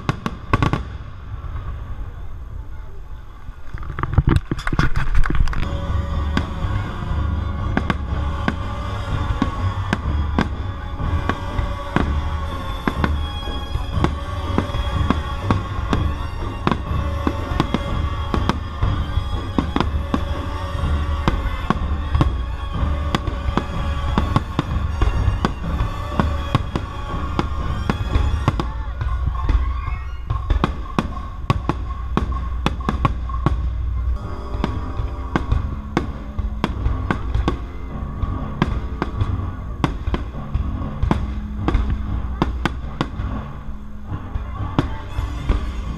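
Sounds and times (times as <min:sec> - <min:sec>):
orchestral music: 0:00.0 - 0:03.6, 0:05.4 - 0:45.9
fireworks bangs and crackles: 0:00.0 - 0:45.9.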